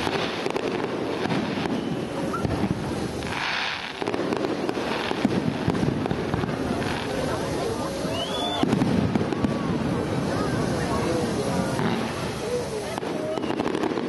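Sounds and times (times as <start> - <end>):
firework booms and crackling: 0.0 - 14.0
loud firework hiss: 0.0 - 14.0.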